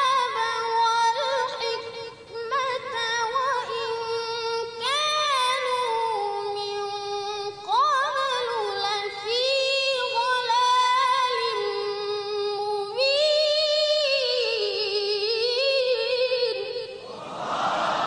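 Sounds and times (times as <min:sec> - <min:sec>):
boy chanting recitation: 0:00.0 - 0:17.2.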